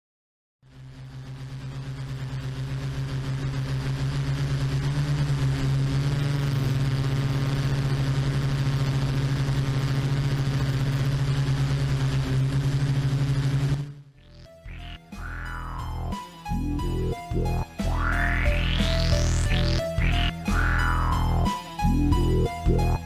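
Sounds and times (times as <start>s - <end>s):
drone rotors humming: 0.7s - 23.0s.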